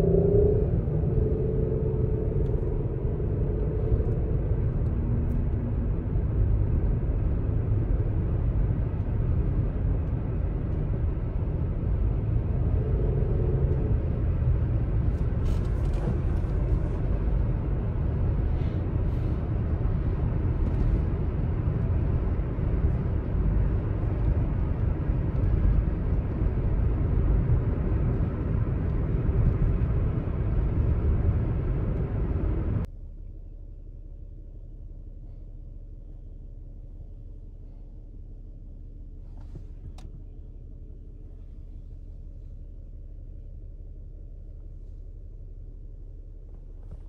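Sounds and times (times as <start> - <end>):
car cabin road rumble: 0.0 - 47.0.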